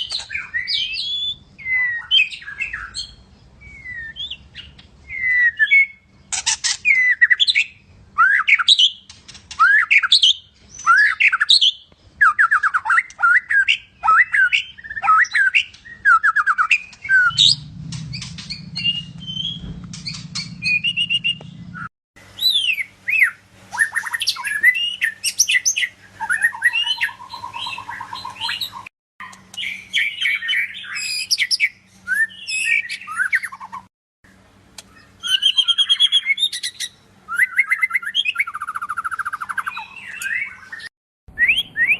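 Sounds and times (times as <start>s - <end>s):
songbird singing whistles and trills: 0.0s - 6.2s, 6.8s - 33.9s, 34.8s - 41.9s.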